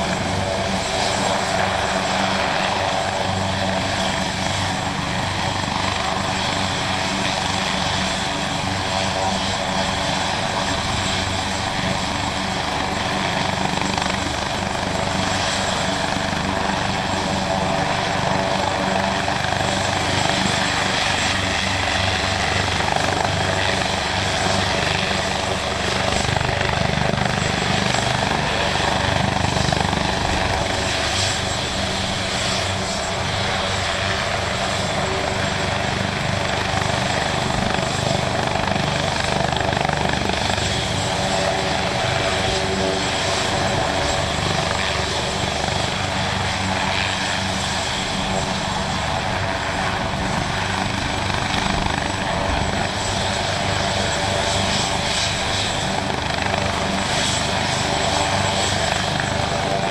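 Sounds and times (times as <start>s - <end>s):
helicopter turbine and rotor: 0.0s - 59.9s.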